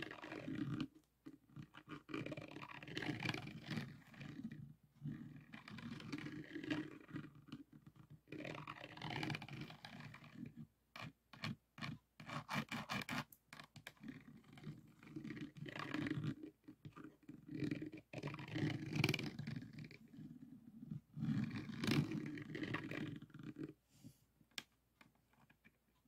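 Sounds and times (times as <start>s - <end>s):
plastic pen scraping and tapping: 0.0s - 23.8s, 24.5s - 26.0s.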